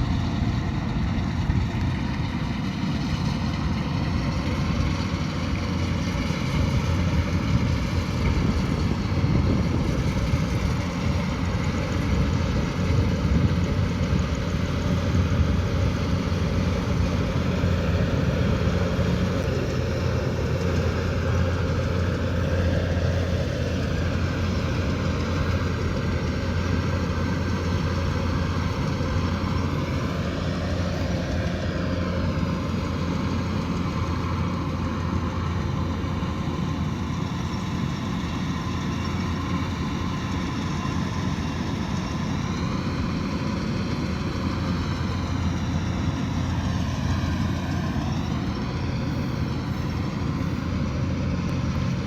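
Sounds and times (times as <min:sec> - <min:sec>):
combine harvester running: 0:00.0 - 0:52.0
high machinery whine: 0:00.0 - 0:52.0.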